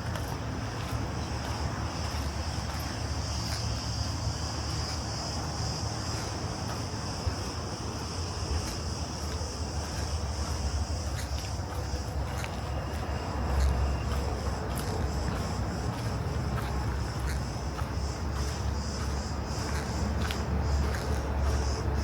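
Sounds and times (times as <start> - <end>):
cicadas singing: 0.0 - 22.0.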